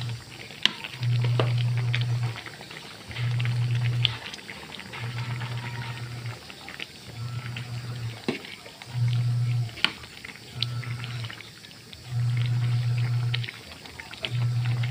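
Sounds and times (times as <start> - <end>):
broth bubbling: 0.0 - 14.9.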